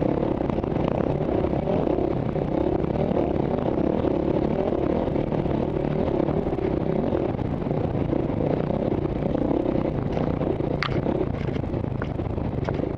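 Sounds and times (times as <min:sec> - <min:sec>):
motorbike engine running: 0:00.0 - 0:12.9
wind buffeting microphone: 0:00.0 - 0:12.9.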